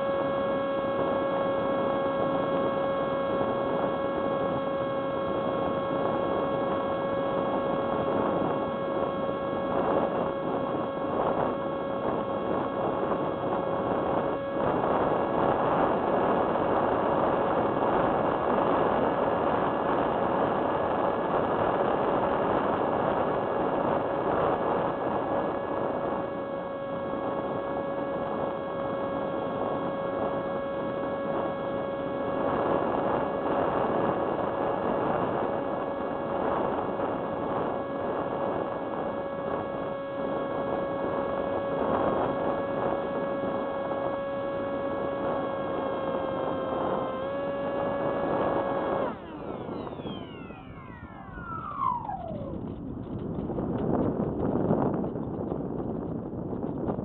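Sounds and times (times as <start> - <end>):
electric motor propeller whine: 0.0 - 57.0.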